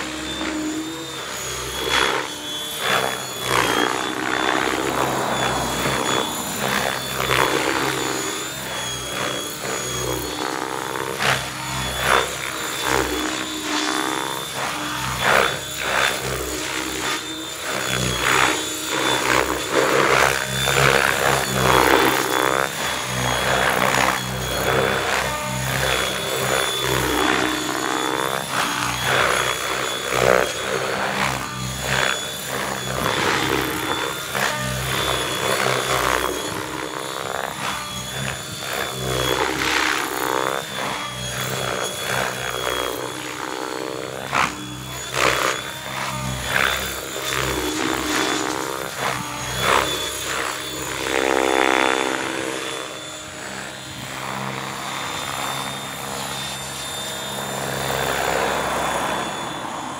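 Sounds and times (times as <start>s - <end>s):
rotor blades whooshing: 0.0s - 51.3s
high motor whine: 0.0s - 59.9s.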